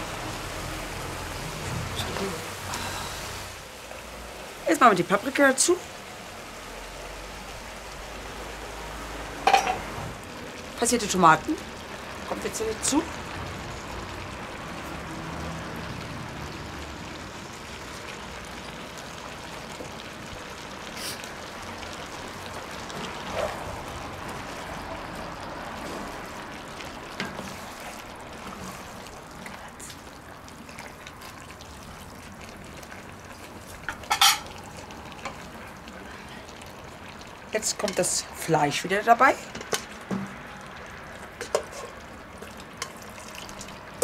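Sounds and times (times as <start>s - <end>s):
sauce sizzling and bubbling: 0.0s - 44.0s.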